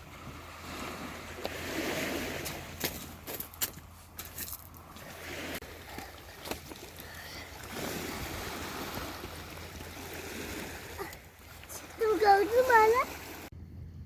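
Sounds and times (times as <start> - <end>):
small waves washing on shore: 0.0 - 13.5.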